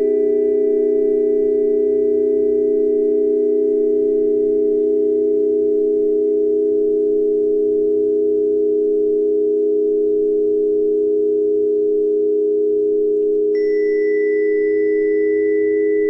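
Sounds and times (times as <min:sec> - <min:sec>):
high ringing tone: 0:00.0 - 0:16.0
steady pure tone hum: 0:00.0 - 0:16.0.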